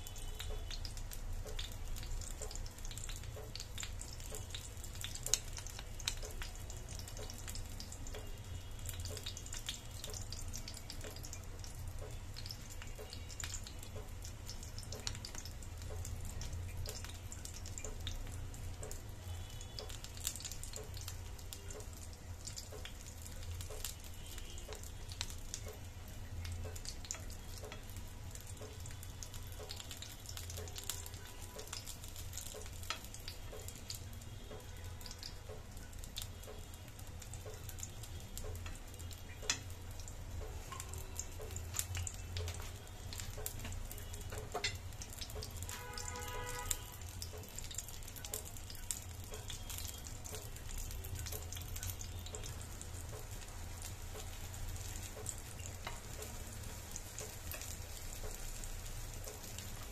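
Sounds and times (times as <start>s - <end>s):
vegetables frying in oil: 0.0s - 59.9s.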